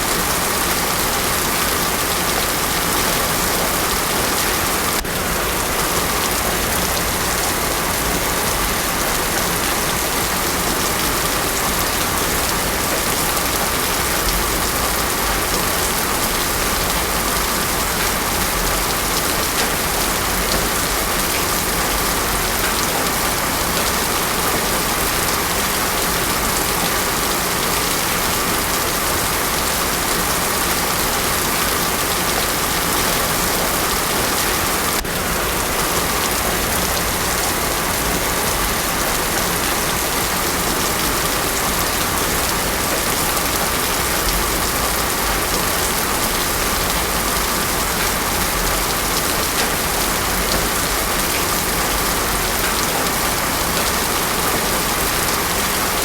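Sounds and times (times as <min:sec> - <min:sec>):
heavy rain on paved road: 0:00.0 - 0:56.0.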